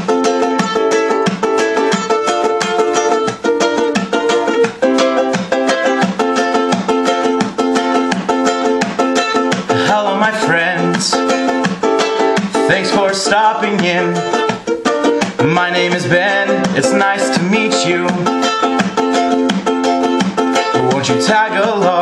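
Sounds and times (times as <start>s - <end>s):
ukulele strumming chords: 0.0s - 22.0s.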